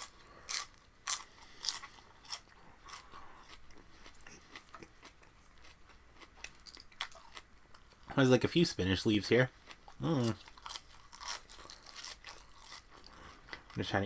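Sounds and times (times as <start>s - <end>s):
crunching raw vegetables: 0.0s - 8.0s, 9.6s - 14.0s.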